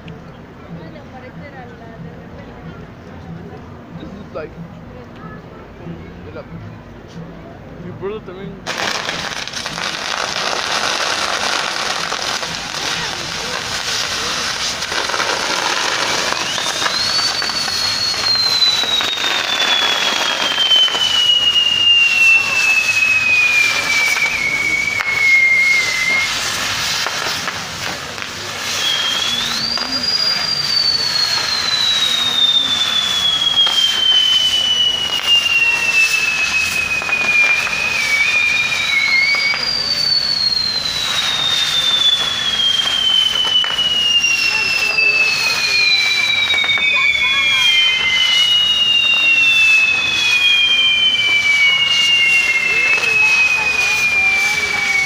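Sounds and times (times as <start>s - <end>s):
faint firework crackles: 0.0s - 55.0s
spinning fireworks hissing: 8.5s - 55.0s
high sliding whistles: 8.7s - 55.0s.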